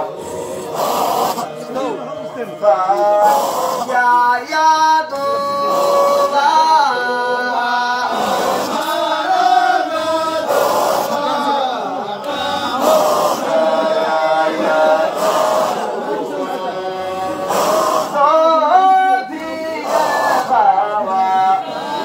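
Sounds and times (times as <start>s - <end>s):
men chanting: 0.0s - 22.0s.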